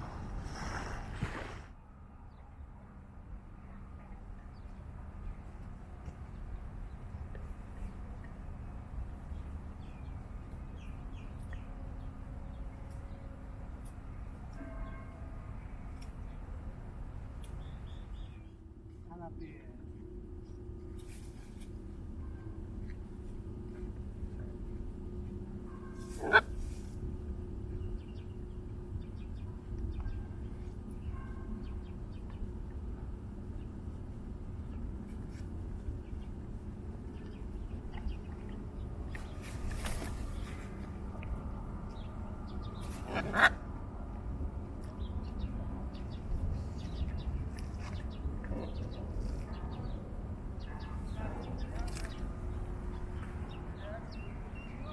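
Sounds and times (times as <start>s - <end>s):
low outdoor rumble: 0.0s - 54.9s.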